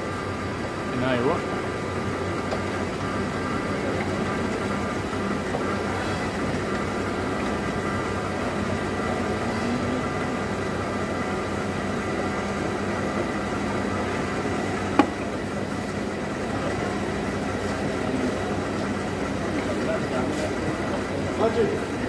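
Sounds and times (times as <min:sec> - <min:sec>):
machine motor humming and whining: 0:00.0 - 0:22.0.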